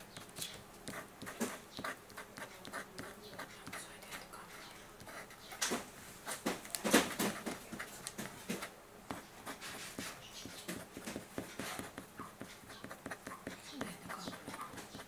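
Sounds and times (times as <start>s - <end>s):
scratchy colouring on paper: 0.1s - 5.6s, 6.3s - 15.0s.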